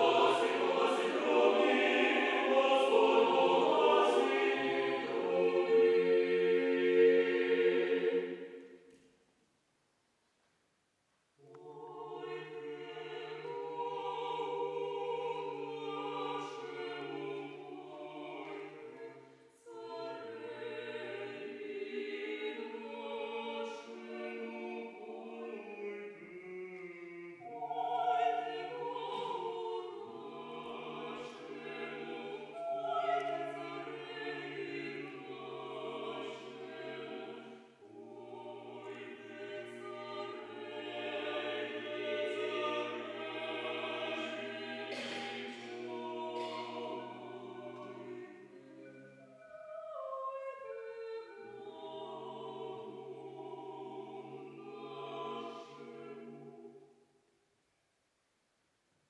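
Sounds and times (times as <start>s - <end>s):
choir singing unaccompanied: 0.0s - 8.9s, 11.4s - 57.0s.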